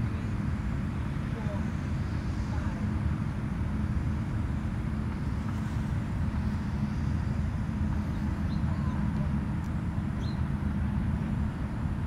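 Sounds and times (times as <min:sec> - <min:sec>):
distant motor traffic drone: 0:00.0 - 0:12.0.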